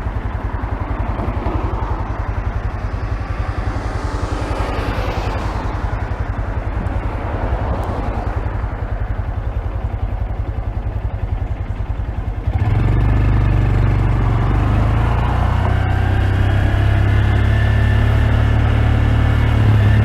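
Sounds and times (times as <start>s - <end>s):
muffled motorcycle engine running: 0.0s - 20.0s.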